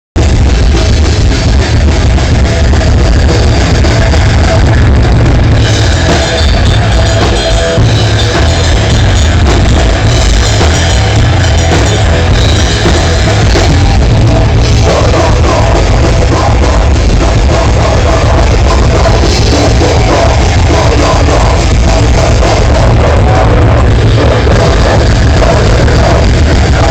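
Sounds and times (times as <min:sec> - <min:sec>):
loud rock music: 0:00.2 - 0:26.9.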